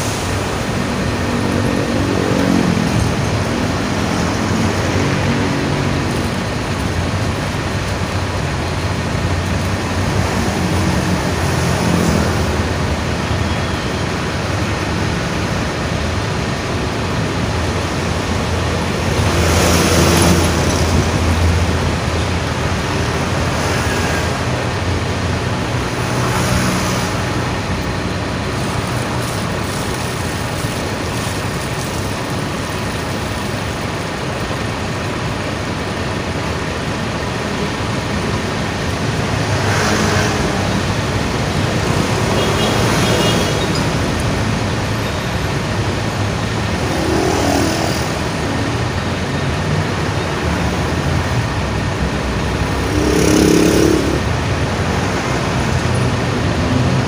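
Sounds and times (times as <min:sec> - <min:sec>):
road traffic engine hum: 0:00.0 - 0:57.0
vehicles passing: 0:00.0 - 0:57.0.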